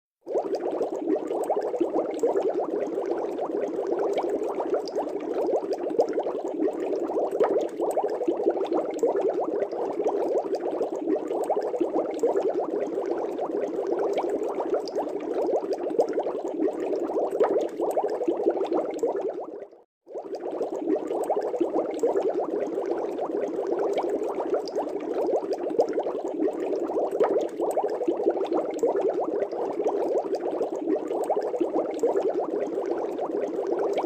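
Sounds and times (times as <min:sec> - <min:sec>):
aquarium air bubbles: 0:00.2 - 0:34.0.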